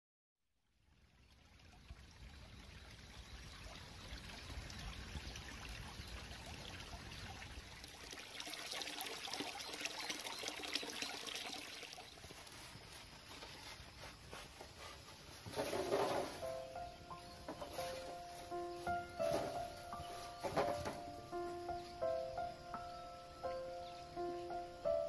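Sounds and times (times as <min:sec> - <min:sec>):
water trickling into a pond: 0:00.5 - 0:25.0.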